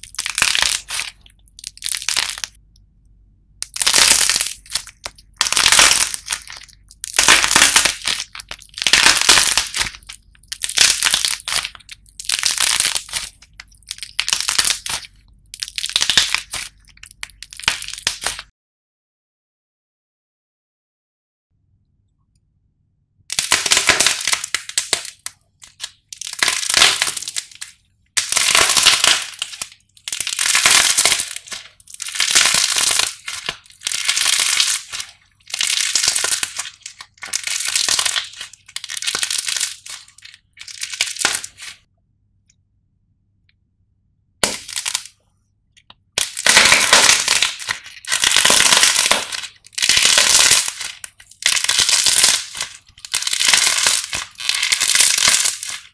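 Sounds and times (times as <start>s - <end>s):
clay crust crackling and crunching: 0.0s - 18.5s, 23.3s - 41.9s, 44.4s - 45.2s, 45.8s - 55.9s.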